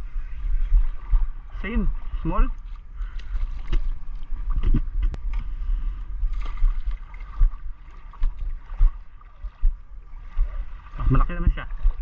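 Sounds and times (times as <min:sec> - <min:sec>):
water noise: 0:00.0 - 0:12.0
wind rumble on microphone: 0:00.0 - 0:12.0.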